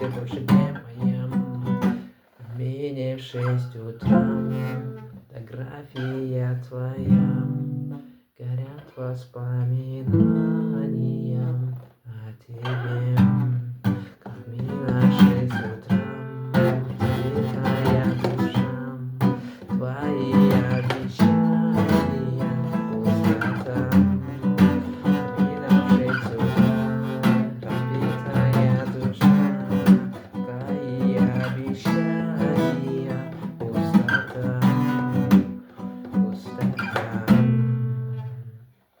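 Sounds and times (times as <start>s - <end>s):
acoustic guitar strumming chords: 0.0s - 2.2s, 3.4s - 5.2s, 6.0s - 8.2s, 10.0s - 11.8s, 12.6s - 38.6s.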